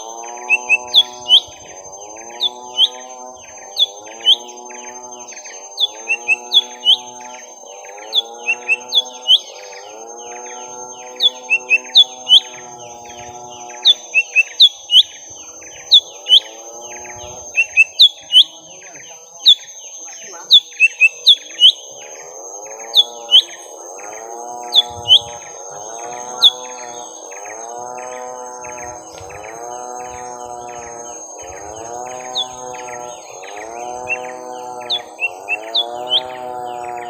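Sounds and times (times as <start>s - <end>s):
bird warbling: 0.0s - 37.0s
sharp bird chirps: 0.0s - 37.0s.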